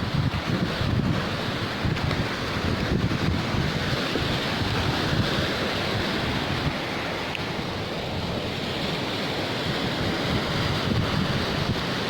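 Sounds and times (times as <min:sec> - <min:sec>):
sea waves: 0:00.0 - 0:12.0
wind noise on microphone: 0:00.0 - 0:12.0.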